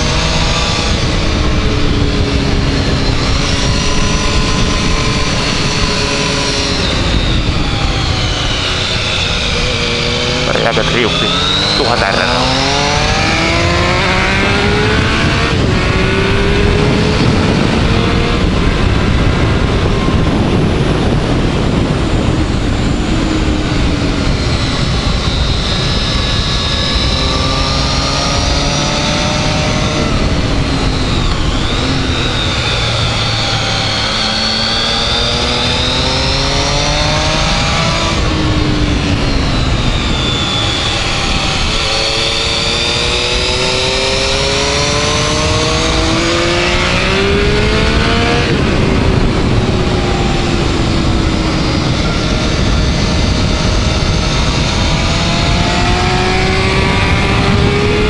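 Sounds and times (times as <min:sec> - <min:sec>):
motorcycle engine revving hard: 0:00.0 - 0:58.0
wind rush on microphone: 0:00.0 - 0:58.0.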